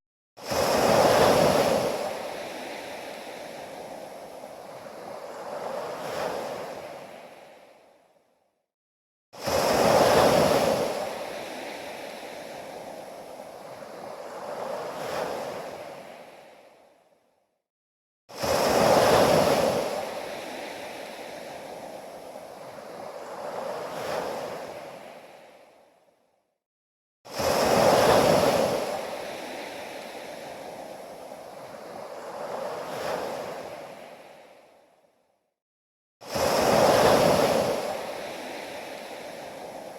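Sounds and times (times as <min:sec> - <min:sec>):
ocean waves washing in: 0:00.4 - 0:08.2, 0:09.4 - 0:17.2, 0:18.3 - 0:26.1, 0:27.3 - 0:35.2, 0:36.2 - 0:39.9.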